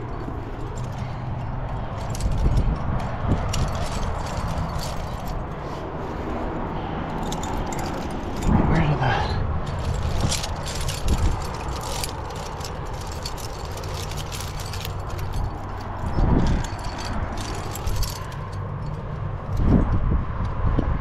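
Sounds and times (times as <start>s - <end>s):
metal climbing gear jingling: 0.0s - 19.8s
steady low rumble: 0.0s - 21.0s.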